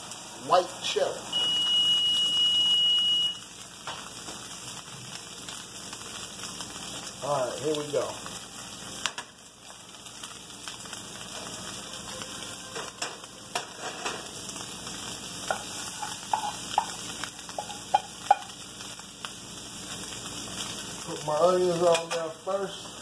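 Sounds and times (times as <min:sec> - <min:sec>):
chicken sizzling in frying pan: 0:00.0 - 0:23.0.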